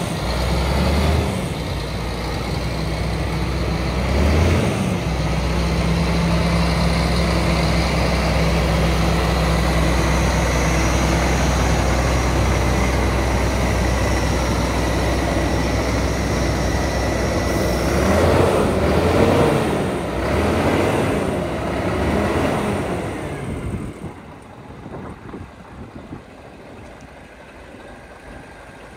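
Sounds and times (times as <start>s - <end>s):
diesel truck engine idling and revving: 0.0s - 28.9s.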